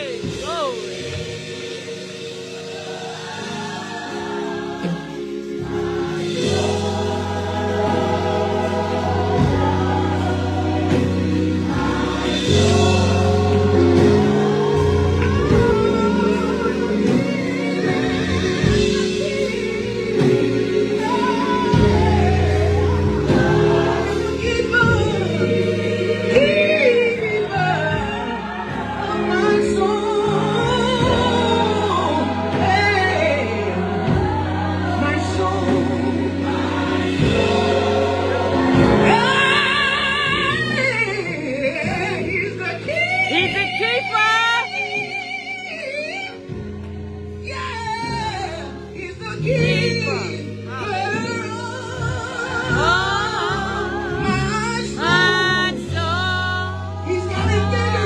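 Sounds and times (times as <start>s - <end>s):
choir singing held chords: 0.0s - 58.0s
bass guitar: 4.2s - 58.0s.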